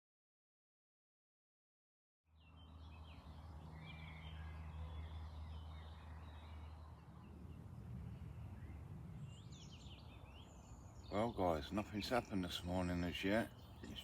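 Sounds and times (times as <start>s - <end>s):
small birds chirping: 2.3s - 14.0s
steady low rumble: 2.6s - 14.0s.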